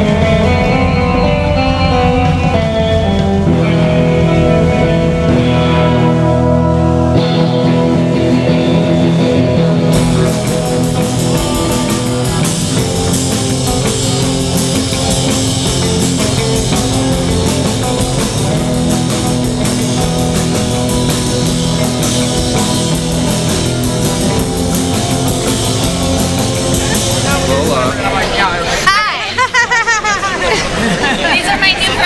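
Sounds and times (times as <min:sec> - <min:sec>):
drum kit and cymbals: 0:00.0 - 0:28.8
electric guitar: 0:00.0 - 0:29.5.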